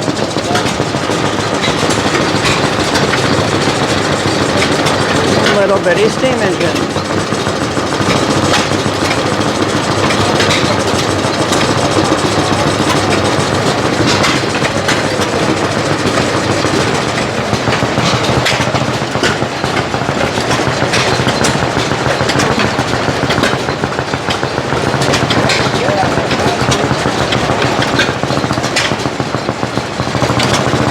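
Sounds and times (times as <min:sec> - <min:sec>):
small steam engine clattering: 0:00.0 - 0:30.9.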